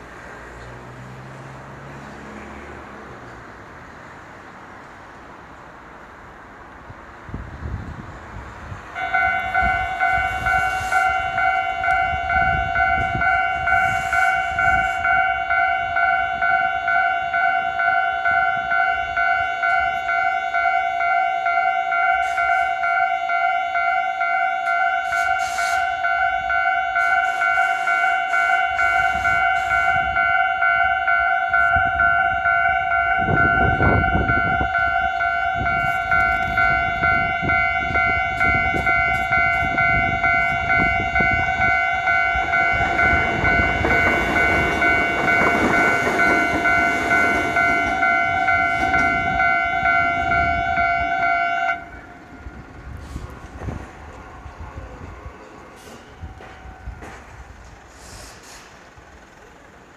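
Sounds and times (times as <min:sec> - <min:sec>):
passing vehicle rumble: 0:00.0 - 0:20.4, 0:25.4 - 0:59.9
level crossing warning bell: 0:08.9 - 0:57.3.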